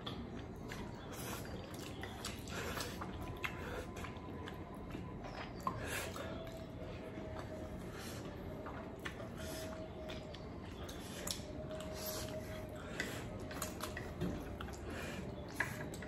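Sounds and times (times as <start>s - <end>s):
wet chewing of noodles: 0.0s - 16.0s.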